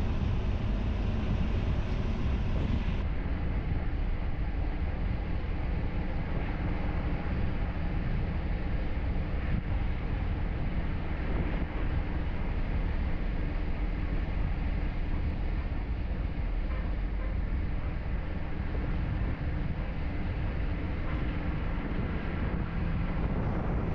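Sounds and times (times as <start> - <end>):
wind noise on microphone: 0.0 - 23.9.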